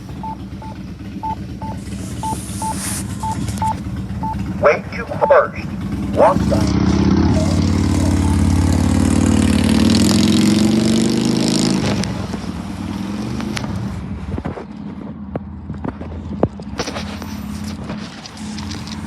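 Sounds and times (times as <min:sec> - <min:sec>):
vehicle engine passing by: 0:00.0 - 0:19.0.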